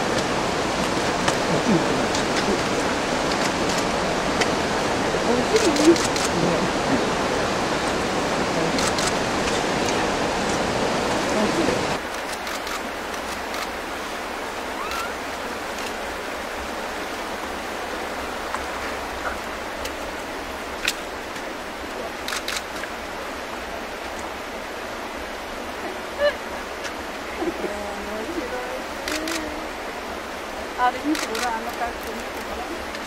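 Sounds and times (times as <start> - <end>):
flowing water rushing: 0.0 - 33.0.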